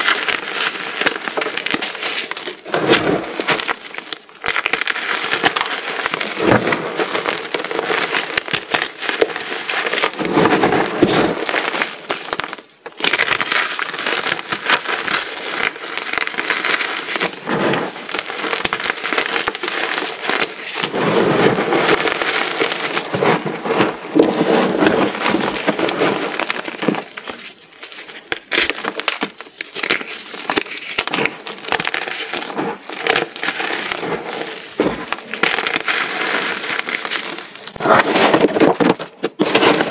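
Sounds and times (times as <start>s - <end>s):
chalk pieces crunching: 0.0s - 39.9s.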